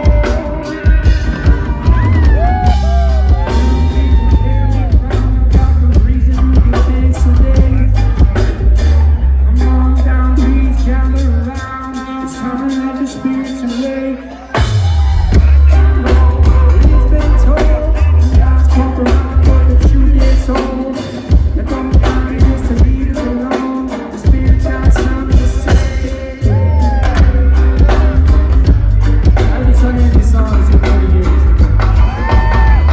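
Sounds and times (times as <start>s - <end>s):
drums: 0.0s - 32.9s
heavy bass line: 0.0s - 32.9s
person singing: 0.0s - 32.9s.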